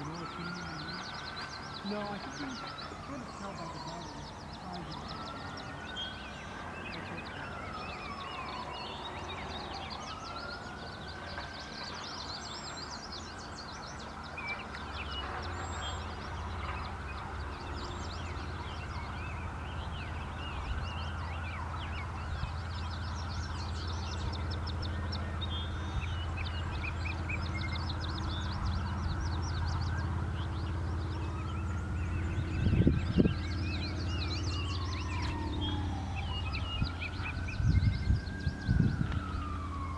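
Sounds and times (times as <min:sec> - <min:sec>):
low engine hum: 0:00.0 - 0:39.9
siren wailing: 0:00.0 - 0:39.9
small birds chirping: 0:00.0 - 0:39.9.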